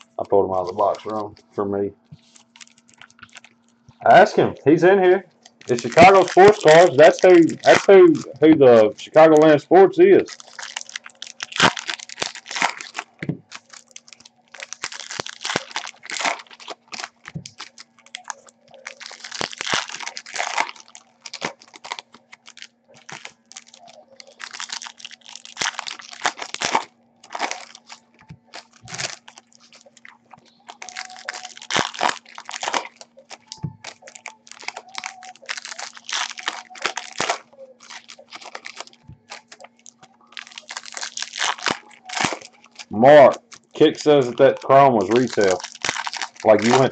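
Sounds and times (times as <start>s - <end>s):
foil packs tearing and crinkling: 0.0s - 1.3s, 2.2s - 4.4s, 5.4s - 46.9s
faint low hum: 0.0s - 46.9s.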